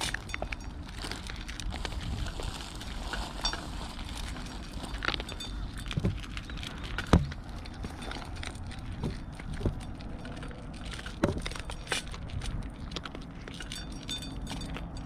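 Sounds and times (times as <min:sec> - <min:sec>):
cats chewing from metal bowls: 0:00.0 - 0:15.0
low background rumble: 0:00.0 - 0:15.0.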